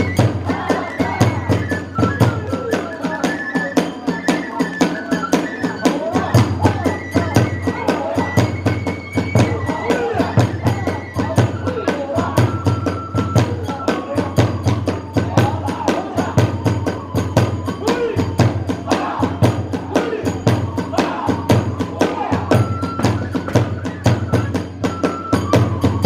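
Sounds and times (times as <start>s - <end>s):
bamboo flute melody: 0.0s - 26.0s
drum beat: 0.0s - 26.0s.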